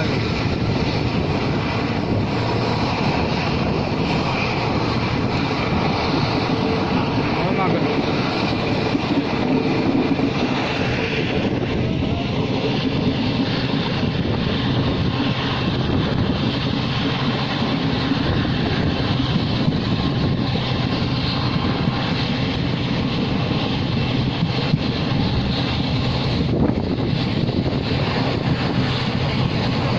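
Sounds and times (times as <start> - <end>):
air rushing past: 0.0 - 29.9
train wheels rumbling on rail: 0.0 - 29.9.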